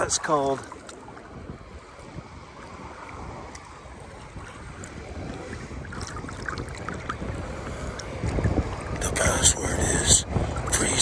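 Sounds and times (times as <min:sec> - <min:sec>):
small water splashes: 0:00.0 - 0:11.0
small waves lapping and splashing: 0:00.0 - 0:11.0
wind rumbling on microphone: 0:00.0 - 0:11.0.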